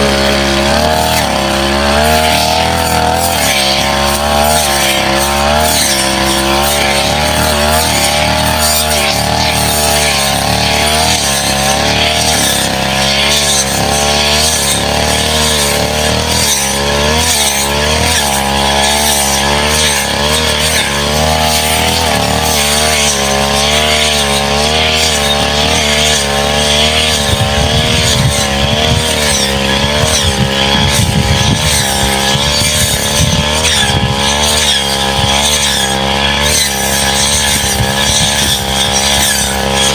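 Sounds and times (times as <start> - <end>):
brush cutter running: 0.0 - 39.9.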